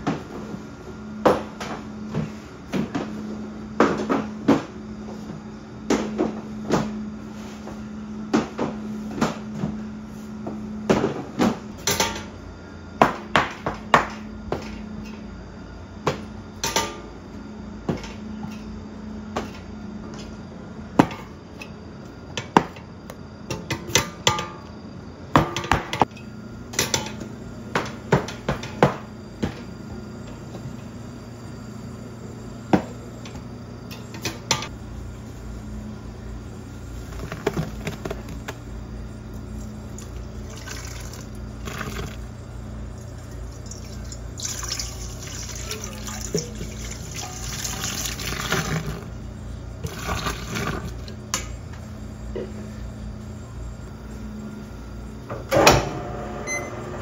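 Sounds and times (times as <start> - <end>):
lower machine hum: 0.0 - 57.0
steady machine hum: 0.0 - 57.0.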